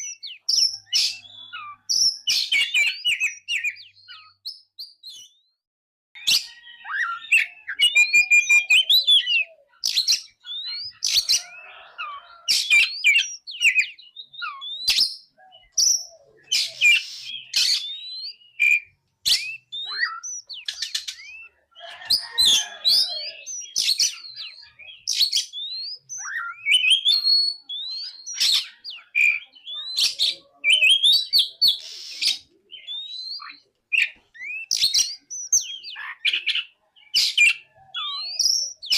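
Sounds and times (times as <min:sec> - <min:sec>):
bird singing whistles and trills: 0:00.0 - 0:05.6, 0:06.2 - 0:38.9.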